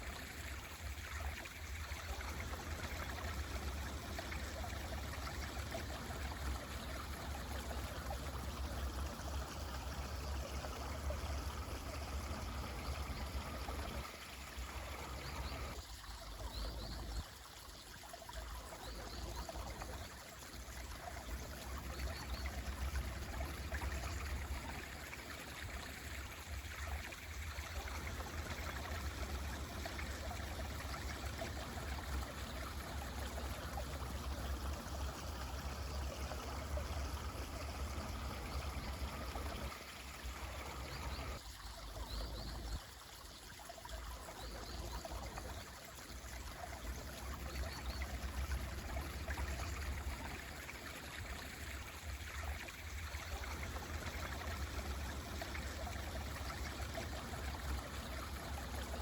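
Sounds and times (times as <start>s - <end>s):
stream water rushing: 0.0s - 18.8s, 19.4s - 59.0s.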